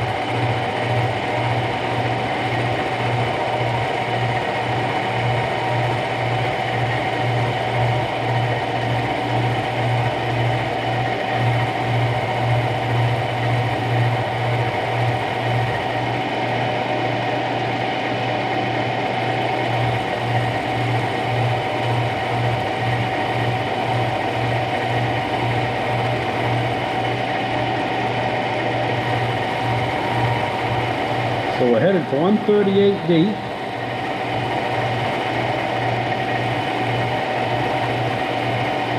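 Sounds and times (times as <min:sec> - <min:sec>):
milling machine humming: 0:00.0 - 0:38.9.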